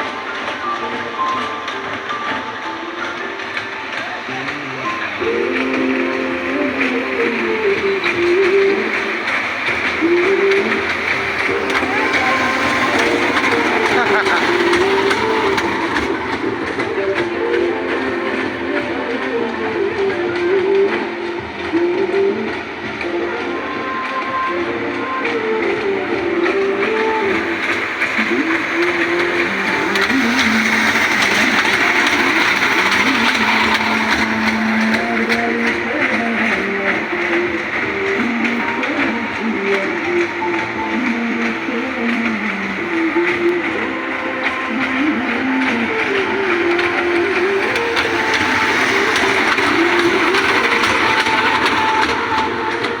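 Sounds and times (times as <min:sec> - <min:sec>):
train rushing noise: 0:00.0 - 0:53.0.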